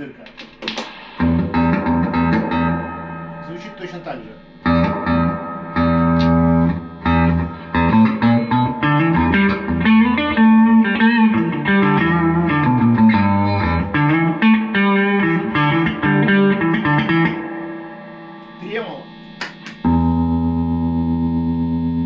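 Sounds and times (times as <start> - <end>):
electric guitar chords and notes: 0.0 - 22.0.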